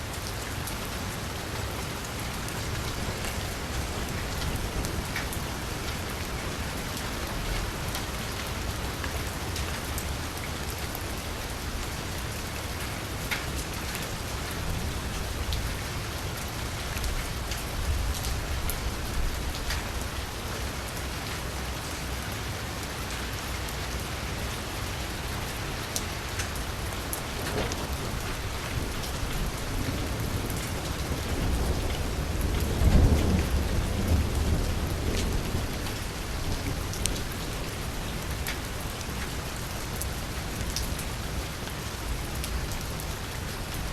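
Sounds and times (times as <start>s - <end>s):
rain falling on street: 0.0s - 43.9s.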